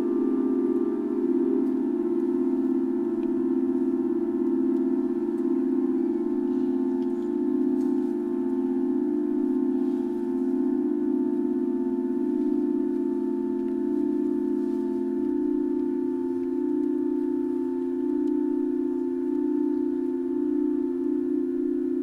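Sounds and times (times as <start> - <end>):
pipe organ tone cluster: 0.0 - 22.0.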